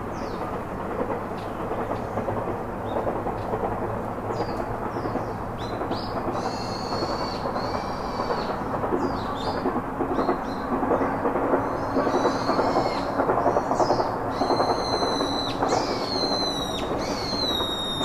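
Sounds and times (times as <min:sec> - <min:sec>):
steady rumbling noise: 0:00.0 - 0:18.0.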